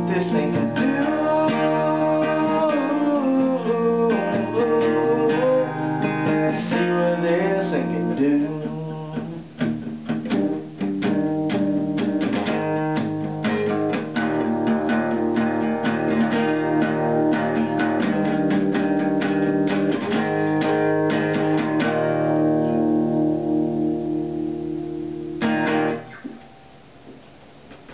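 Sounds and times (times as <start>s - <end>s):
acoustic guitar strumming: 0.0s - 27.9s.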